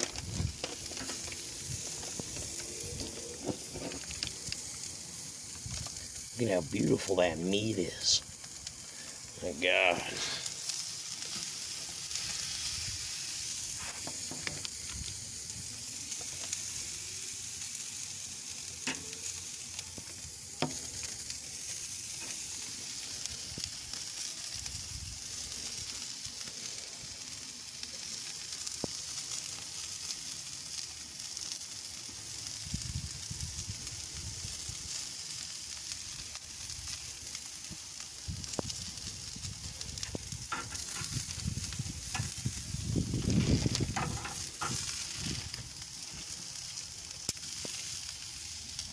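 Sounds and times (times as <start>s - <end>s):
steaks sizzling on a grill: 0.0s - 48.9s.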